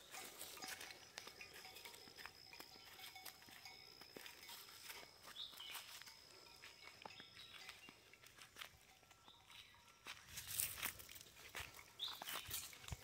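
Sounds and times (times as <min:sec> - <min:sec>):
footsteps on dry leaves: 0:00.0 - 0:13.0.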